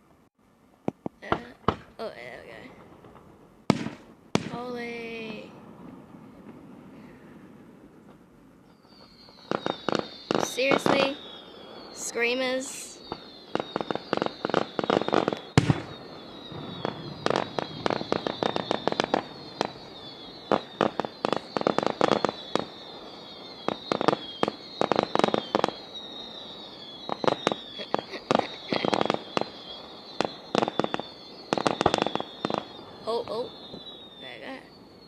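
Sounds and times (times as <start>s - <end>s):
fireworks cracking pops: 0.8s - 7.1s, 8.0s - 34.7s
whistling fireworks: 1.0s - 35.0s.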